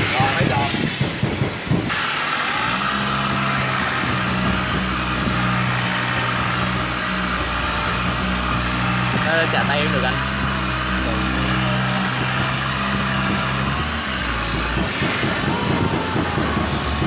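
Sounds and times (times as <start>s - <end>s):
sander whirring hiss: 0.0s - 17.0s
low hum: 2.5s - 17.0s.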